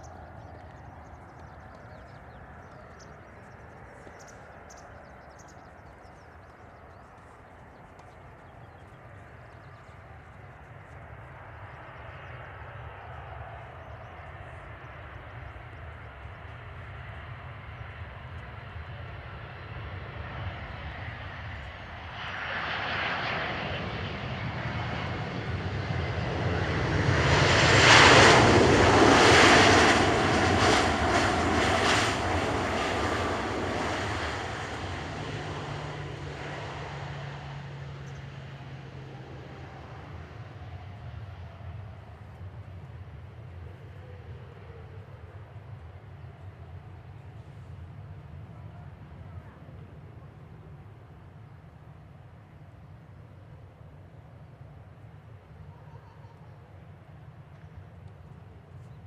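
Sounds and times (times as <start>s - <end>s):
airliner jet engines landing: 0.0s - 59.0s.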